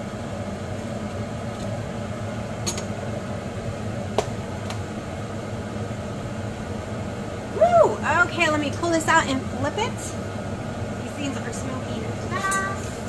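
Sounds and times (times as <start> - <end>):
appliance hum: 0.0 - 13.0.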